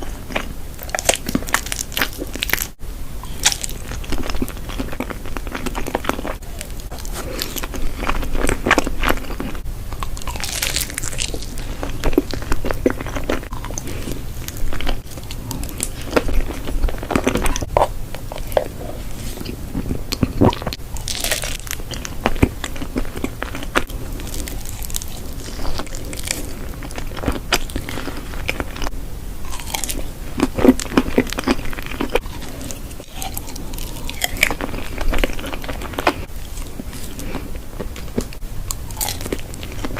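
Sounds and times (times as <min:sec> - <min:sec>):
crunchy bites and chewing: 0:00.0 - 0:39.9
mouth noises: 0:00.0 - 0:39.9.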